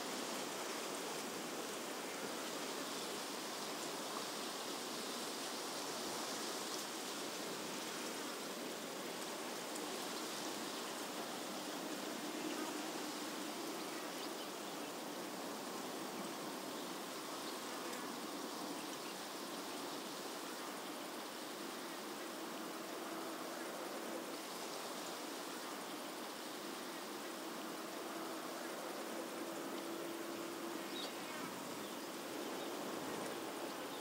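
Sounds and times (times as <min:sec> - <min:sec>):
outdoor hiss: 0:00.0 - 0:34.0.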